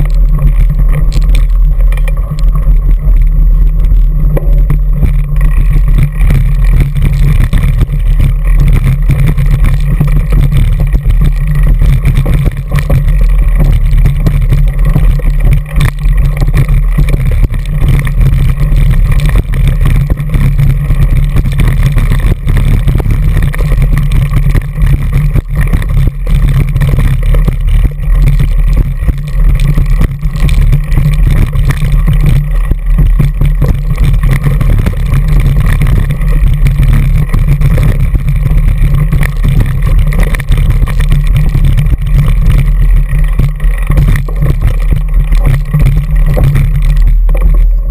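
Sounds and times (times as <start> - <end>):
bike rumbling and rattling: 0.0 - 47.9
wind on microphone: 0.0 - 47.9.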